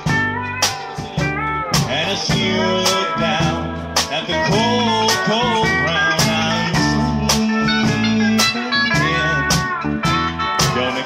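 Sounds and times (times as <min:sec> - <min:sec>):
bass: 0:00.0 - 0:11.0
drums with snare and cymbal: 0:00.0 - 0:11.0
strummed acoustic guitar: 0:00.0 - 0:11.0.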